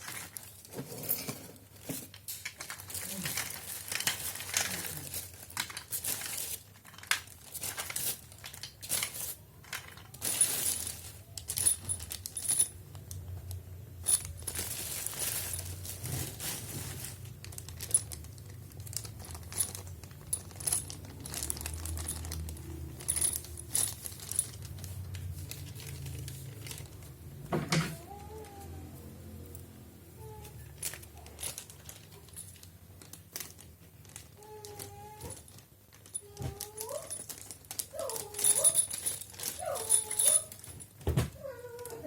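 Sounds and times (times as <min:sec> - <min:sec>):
packaging rustling and crinkling: 0:00.0 - 0:28.6, 0:30.3 - 0:42.0.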